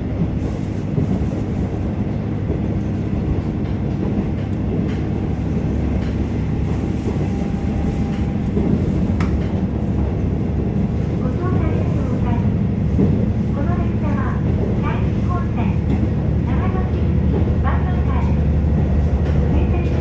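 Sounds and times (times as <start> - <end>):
railcar engine and wheels rumbling: 0.0 - 20.0.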